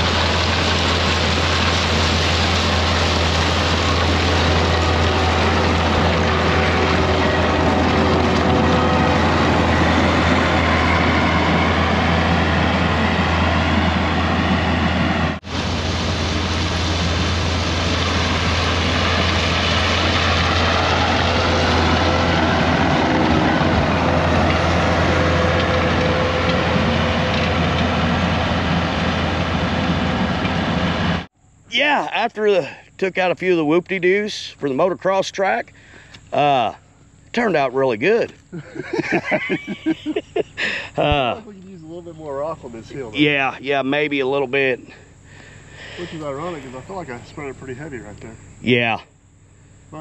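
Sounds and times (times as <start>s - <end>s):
vehicle driving on gravel road: 0.0s - 31.6s, 33.3s - 50.0s.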